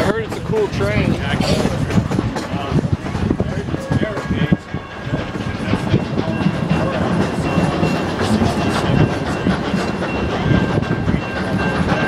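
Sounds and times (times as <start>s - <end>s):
train wheels rumbling and rattling: 0.0s - 12.0s.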